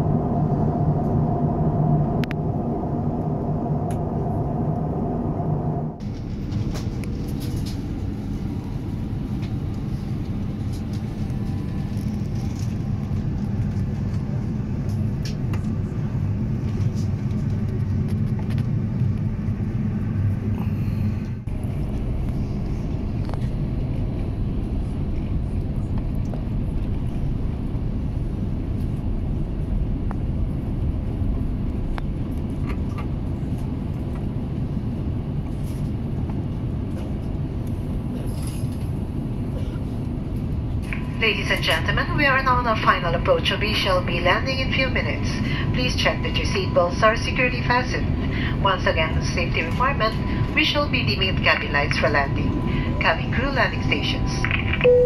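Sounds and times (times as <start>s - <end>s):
airplane cabin rumble: 0.0s - 55.0s
steady hum: 0.0s - 55.0s.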